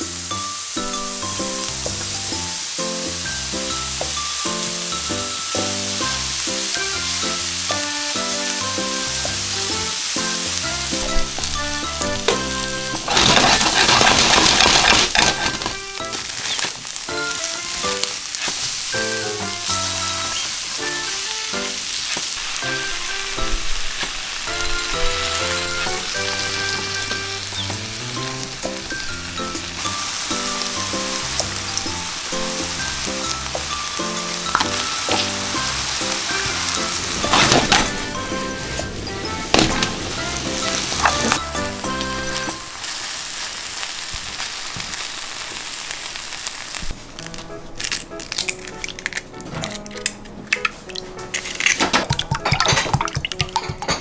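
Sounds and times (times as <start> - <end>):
light background music: 0.0 - 16.4, 18.9 - 42.7, 47.2 - 54.0
food sizzling in a frying pan: 0.0 - 49.2.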